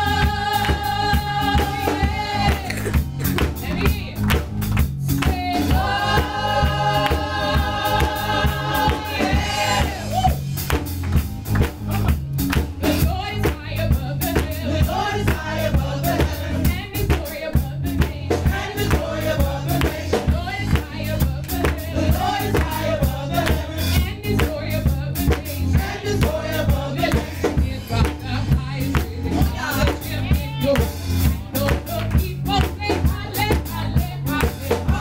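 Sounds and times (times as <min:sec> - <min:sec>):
gospel singers: 0:00.0 - 0:10.8, 0:12.8 - 0:35.0
band with bass and drums: 0:00.0 - 0:35.0.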